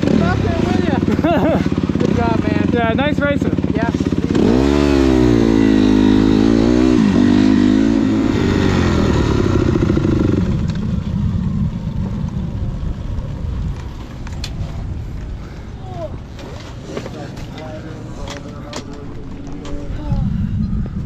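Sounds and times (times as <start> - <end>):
dirt bike engine running: 0.0 - 21.0
low rough rumble: 0.0 - 21.0.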